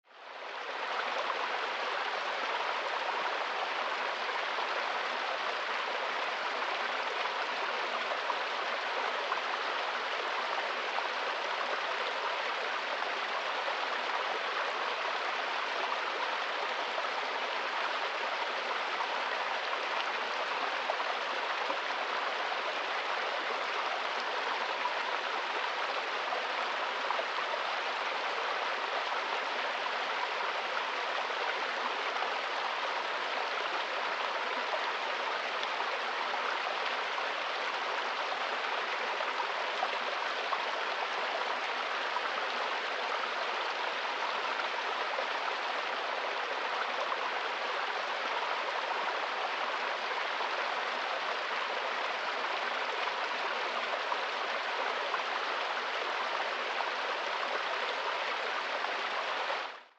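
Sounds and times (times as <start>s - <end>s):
stream rushing over rocks: 0.1s - 59.9s.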